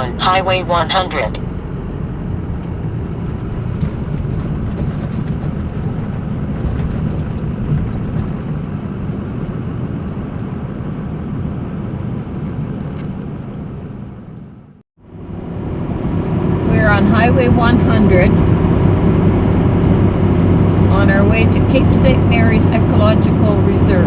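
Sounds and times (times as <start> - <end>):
road and engine noise: 0.0 - 24.0.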